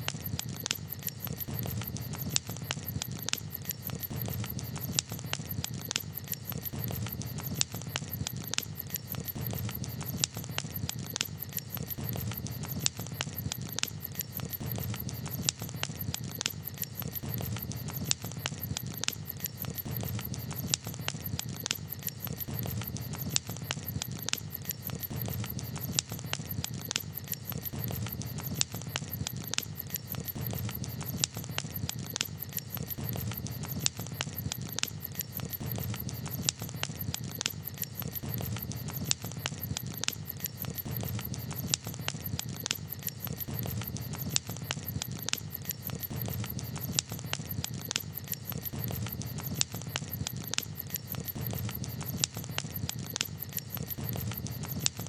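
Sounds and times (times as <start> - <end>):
campfire crackling: 0.0 - 55.0
flames rushing: 0.0 - 55.0.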